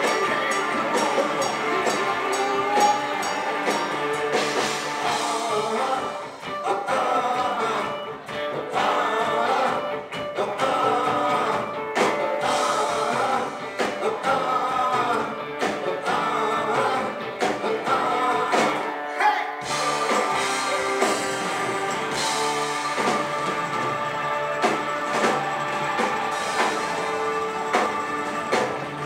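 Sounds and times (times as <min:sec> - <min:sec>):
drum kit: 0:00.0 - 0:18.9, 0:19.6 - 0:29.0
electric guitars: 0:00.0 - 0:29.0
lead vocal singing: 0:00.0 - 0:29.0.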